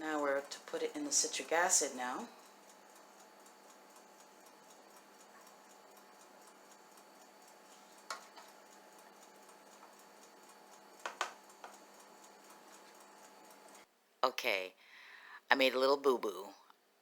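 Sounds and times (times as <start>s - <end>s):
light regular ticking: 0.0s - 13.9s
faint steady hiss: 0.0s - 17.0s.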